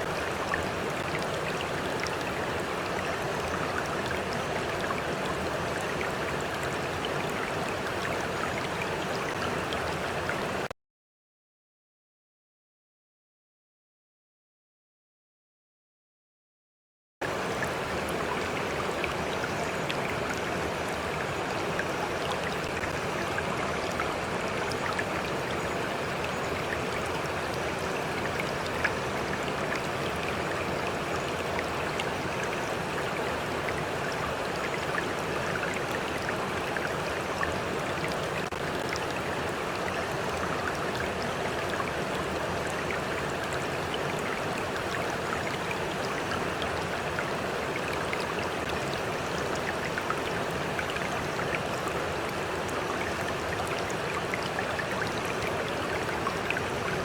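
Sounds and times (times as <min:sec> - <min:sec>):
stream running over stones: 0:00.0 - 0:10.7, 0:17.2 - 0:57.0.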